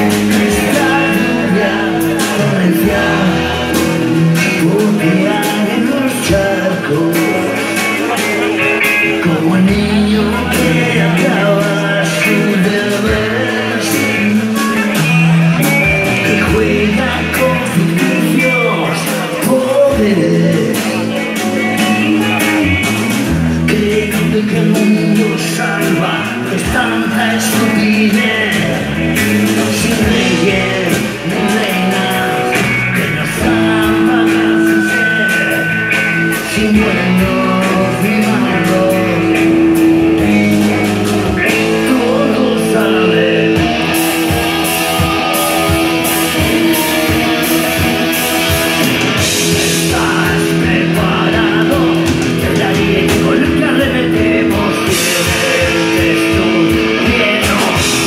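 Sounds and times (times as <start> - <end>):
bass: 0.0 - 58.0
distorted electric guitars: 0.0 - 58.0
drums: 0.0 - 58.0
person singing: 0.0 - 58.0.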